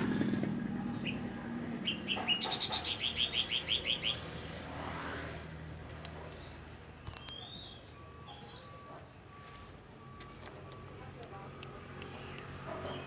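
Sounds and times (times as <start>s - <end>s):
bird chirping: 0.0s - 4.6s, 6.1s - 13.0s.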